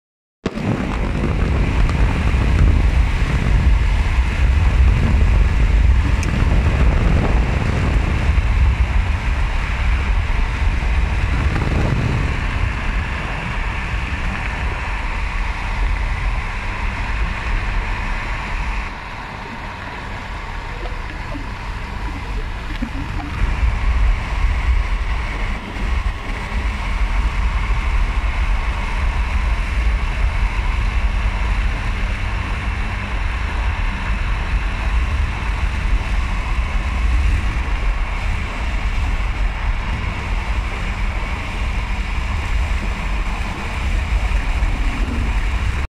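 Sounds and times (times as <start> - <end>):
car road noise rumble: 0.5 - 45.9
wind gusting on microphone: 0.5 - 45.9.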